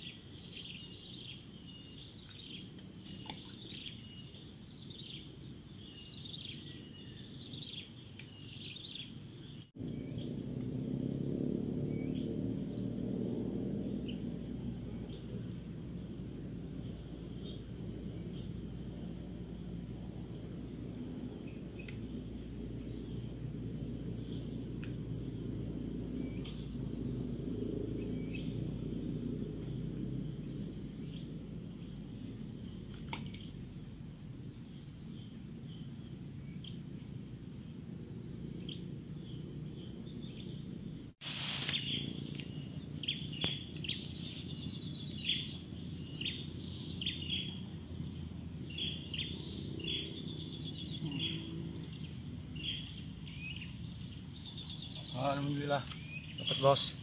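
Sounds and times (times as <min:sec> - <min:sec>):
small birds chirping: 0:00.0 - 0:10.6, 0:11.8 - 0:57.0
steady low rumble: 0:09.5 - 0:57.0.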